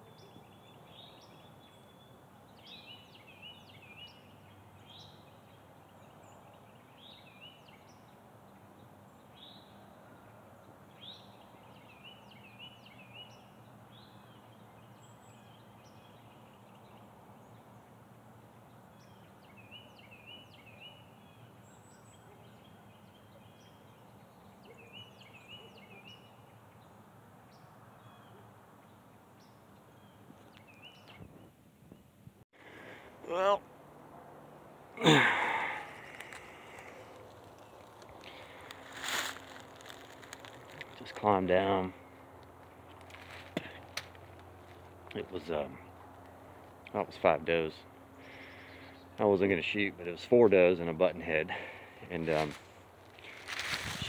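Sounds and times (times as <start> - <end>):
birds chirping: 0.0 - 33.8, 34.4 - 54.0.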